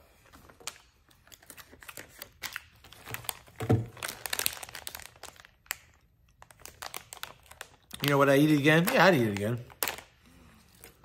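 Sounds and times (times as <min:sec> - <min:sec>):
plastic wrapper crinkling: 0:00.4 - 0:11.0.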